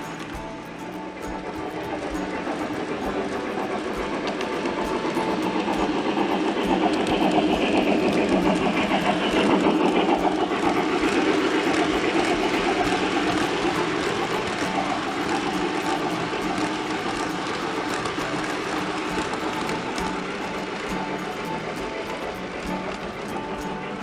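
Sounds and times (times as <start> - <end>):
model train wheels clicking: 0.0 - 24.0.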